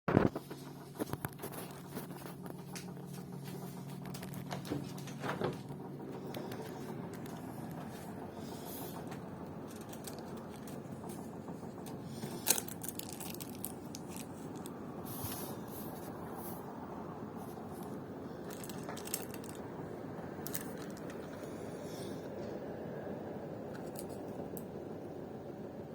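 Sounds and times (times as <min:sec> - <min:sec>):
air conditioner humming: 0:00.2 - 0:25.9.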